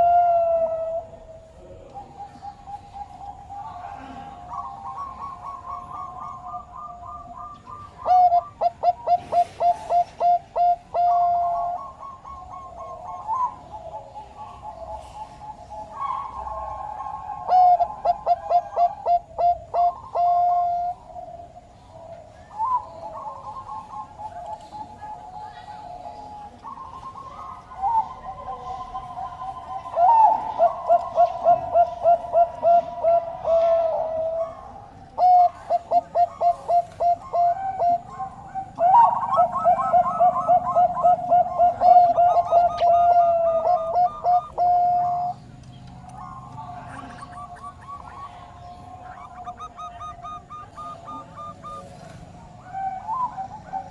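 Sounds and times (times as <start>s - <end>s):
dove cooing: 0.0s - 53.9s
faint steady background tone: 0.0s - 53.9s.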